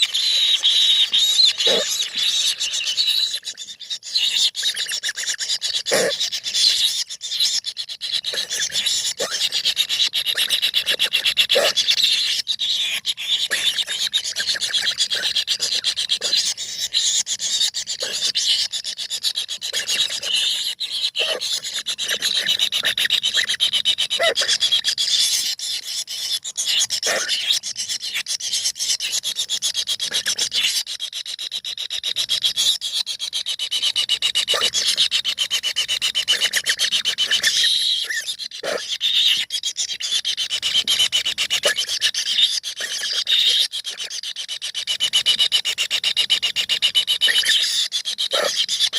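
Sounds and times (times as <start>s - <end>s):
nestlings begging calls: 0.0s - 48.9s.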